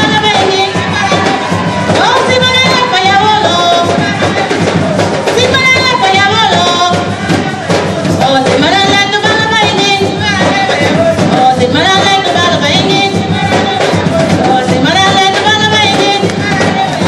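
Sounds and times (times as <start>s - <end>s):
hand drums playing: 0.0s - 17.0s
voices singing: 0.0s - 17.0s.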